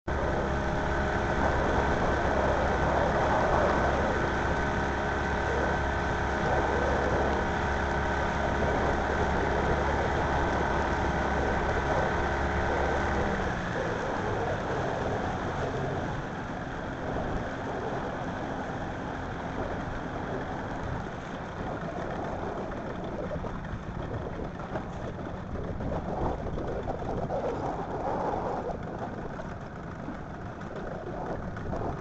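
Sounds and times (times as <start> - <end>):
engine idling: 0.1 - 32.0.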